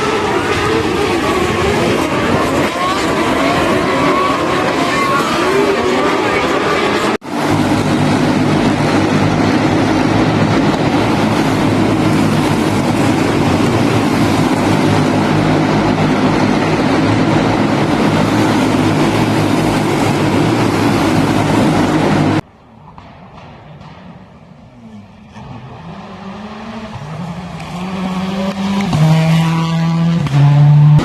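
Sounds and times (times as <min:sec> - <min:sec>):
racing engines running hard: 0:00.0 - 0:22.5, 0:24.4 - 0:31.0.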